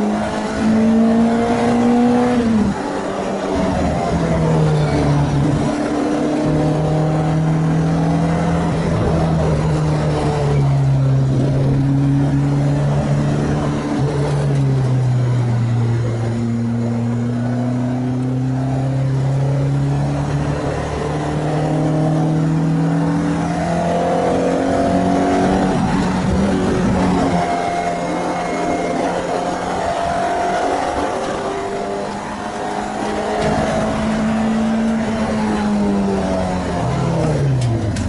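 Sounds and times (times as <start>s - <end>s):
car engine running hard: 0.0s - 38.0s.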